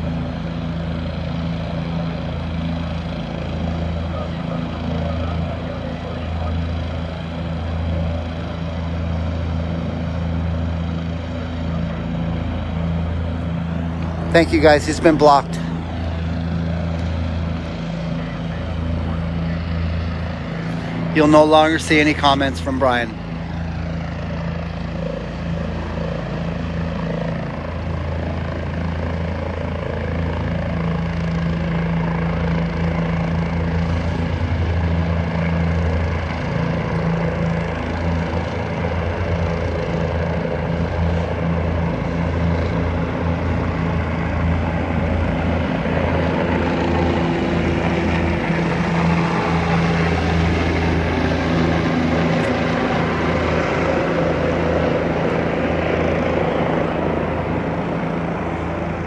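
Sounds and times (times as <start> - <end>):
helicopter rotor drone: 0.0 - 59.0.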